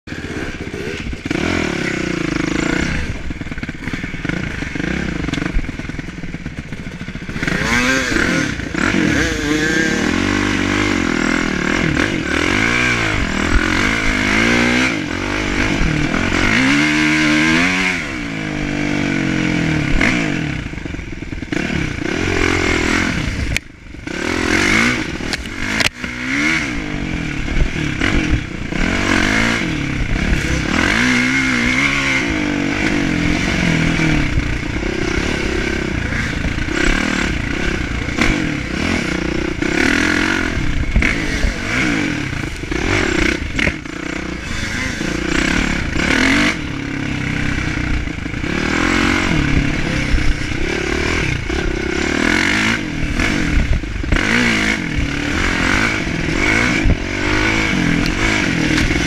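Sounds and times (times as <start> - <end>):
dirt bike engine revving: 0.1 - 59.0.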